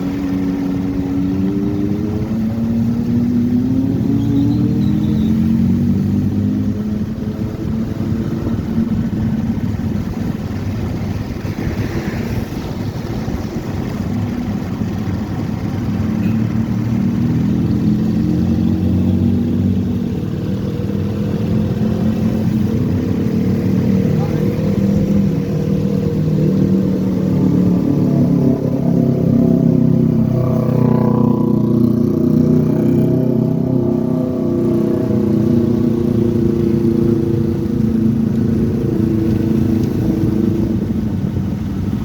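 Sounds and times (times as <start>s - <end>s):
motorcycle engine running: 0.0s - 42.0s
rough rushing noise: 7.0s - 42.0s.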